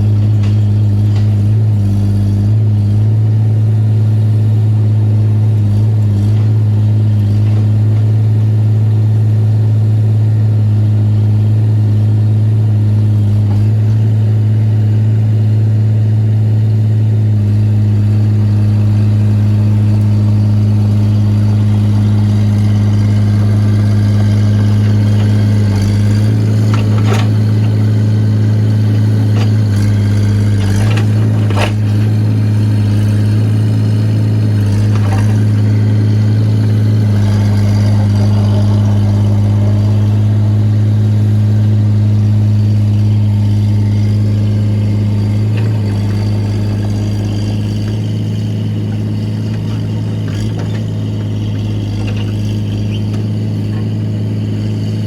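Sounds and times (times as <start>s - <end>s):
excavator diesel engine drone: 0.0s - 55.0s.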